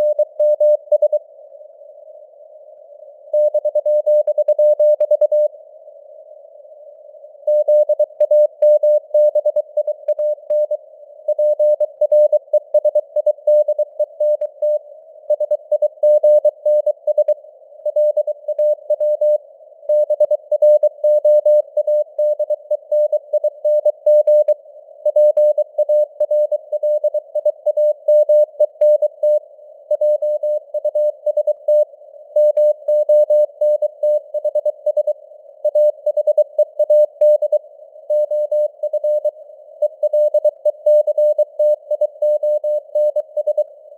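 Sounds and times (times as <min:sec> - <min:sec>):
faint radio static hiss: 0:00.0 - 0:43.9.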